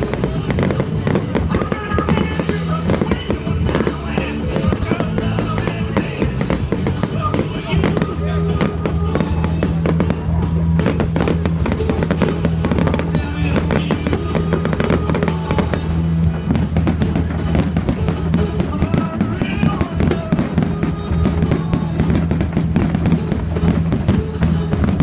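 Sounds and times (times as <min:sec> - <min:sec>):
fireworks bangs and crackles: 0:00.0 - 0:25.0
loud music: 0:00.0 - 0:25.0.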